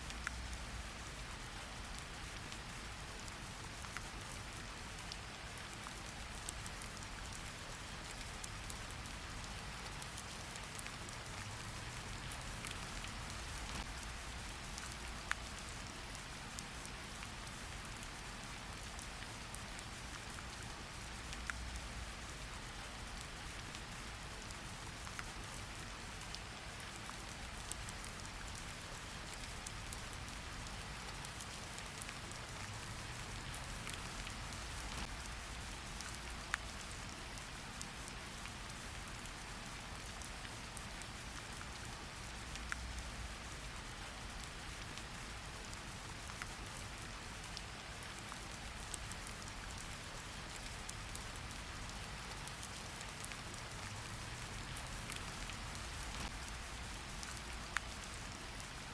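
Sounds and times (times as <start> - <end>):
rain pattering: 0.0 - 58.9.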